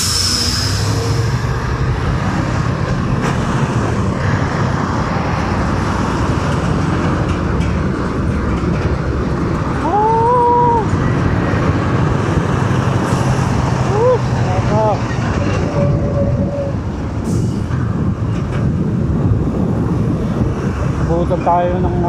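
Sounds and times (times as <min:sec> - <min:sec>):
engine rumble and road noise: 0:00.0 - 0:22.0.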